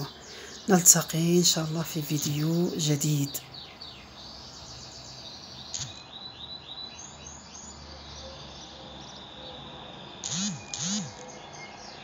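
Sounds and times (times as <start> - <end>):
background noise: 0.0 - 12.0
small bird chirping: 0.0 - 12.0.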